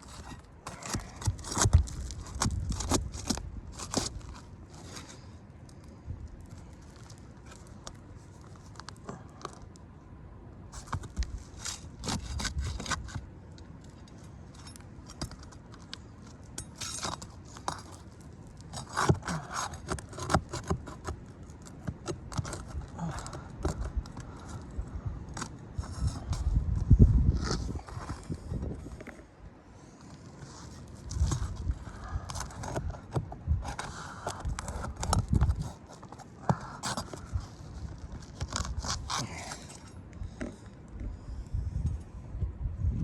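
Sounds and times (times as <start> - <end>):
shingles scraped and pried up: 0.0 - 9.6, 10.7 - 26.6, 29.8 - 40.7.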